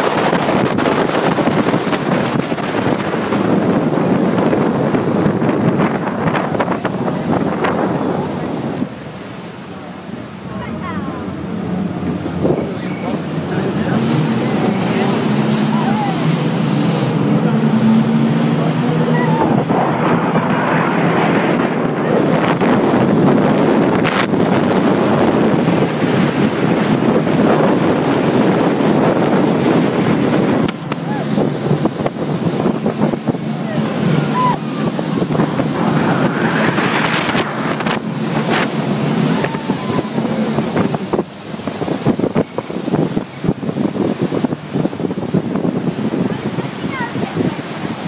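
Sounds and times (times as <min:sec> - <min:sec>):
rushing water: 0:00.0 - 0:48.0
speedboat engine hum: 0:00.0 - 0:48.0
wind buffeting microphone: 0:00.0 - 0:48.0.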